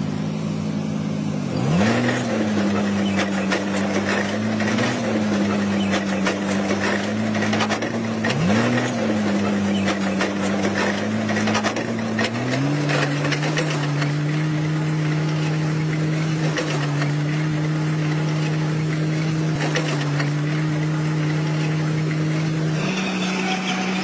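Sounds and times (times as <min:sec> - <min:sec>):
diesel earthmoving machine running: 0:00.0 - 0:24.0
clanks and knocks: 0:02.4 - 0:22.7.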